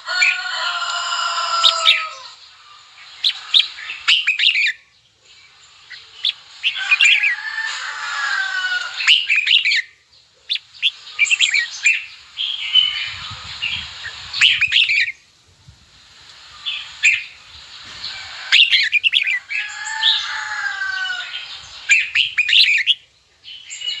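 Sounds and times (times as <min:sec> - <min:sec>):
bird chattering and whistling: 0:00.0 - 0:15.2, 0:16.4 - 0:24.0.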